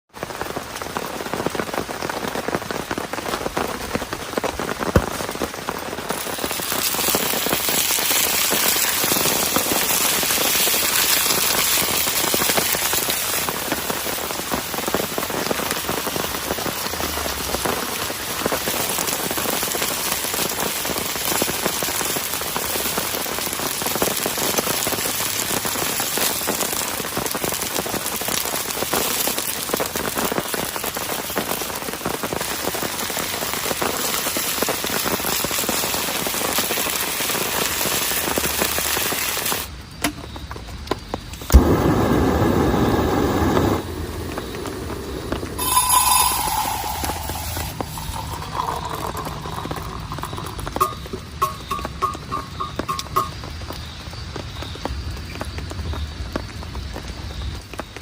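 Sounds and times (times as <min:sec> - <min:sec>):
rain falling: 0:00.1 - 0:58.0.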